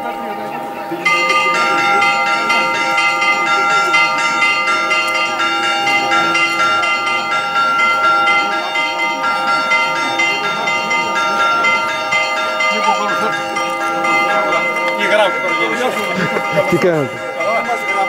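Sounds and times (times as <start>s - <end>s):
church bells ringing a peal: 0.0s - 18.0s.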